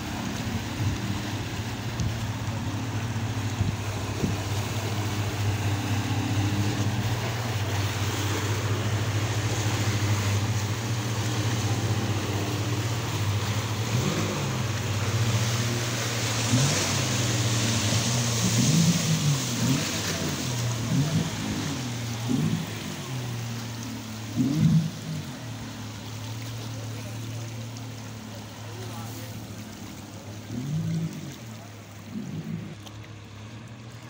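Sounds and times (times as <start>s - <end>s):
churning water: 0.0s - 34.0s
outboard motor running: 0.0s - 34.0s.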